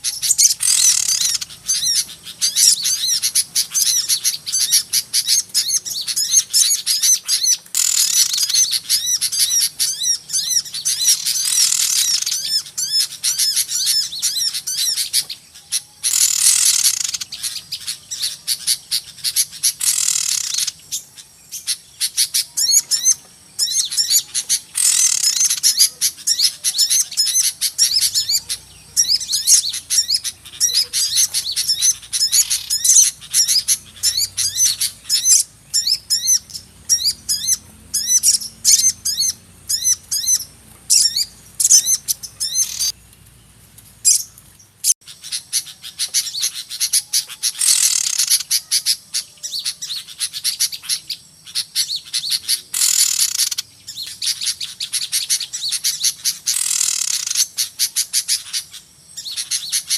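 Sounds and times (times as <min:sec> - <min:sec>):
harsh bird chattering: 0:00.0 - 0:43.0, 0:44.0 - 0:59.9
small birds chirping chorus: 0:00.0 - 0:59.9.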